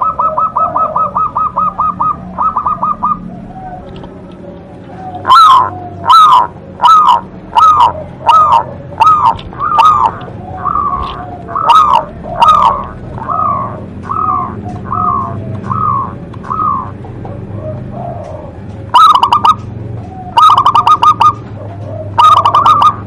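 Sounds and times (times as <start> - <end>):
dove singing: 0.0 - 23.0.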